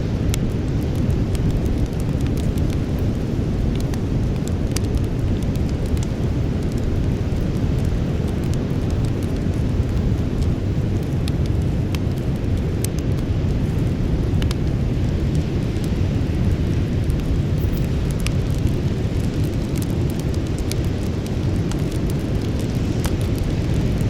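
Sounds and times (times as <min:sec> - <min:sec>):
campfire crackling: 0:00.0 - 0:24.0
low fire rumble: 0:00.0 - 0:24.0.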